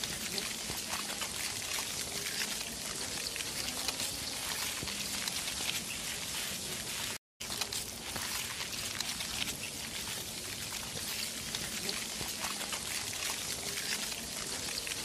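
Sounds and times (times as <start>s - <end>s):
crackling pattering noise: 0.0s - 15.0s.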